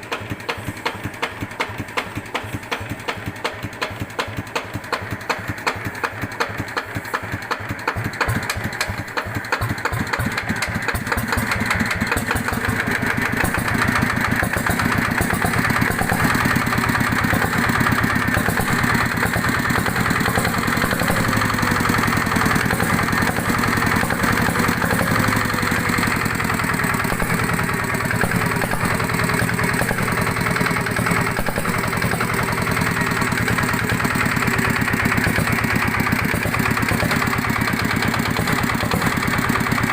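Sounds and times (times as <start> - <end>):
diesel engine idling: 0.0 - 39.9
engine knocking: 0.0 - 39.9.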